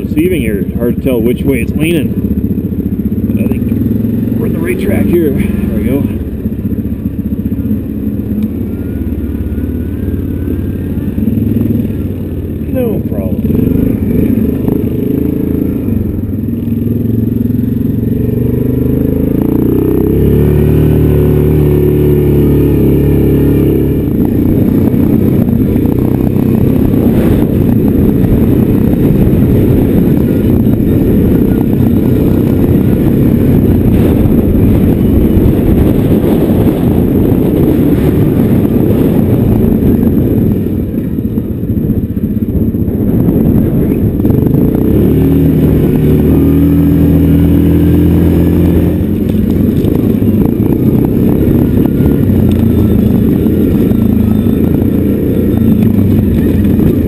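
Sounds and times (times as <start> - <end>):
atv engine running: 0.0 - 57.0
rough rumble on rocky track: 0.0 - 57.0.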